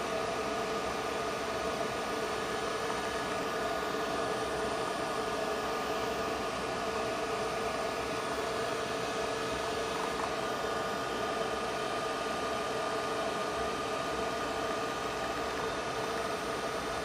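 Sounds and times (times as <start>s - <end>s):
machine hum with held tones: 0.0s - 17.0s.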